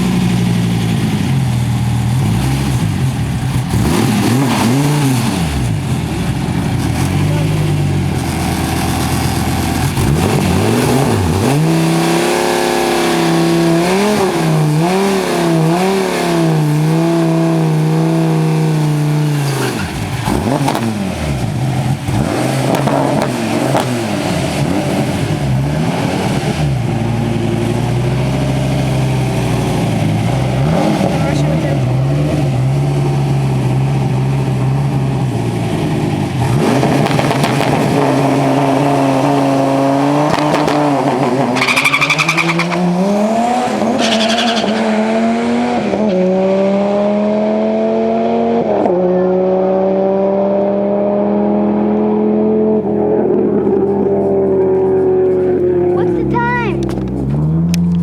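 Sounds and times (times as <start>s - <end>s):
sports car engine revving: 0.0s - 58.0s.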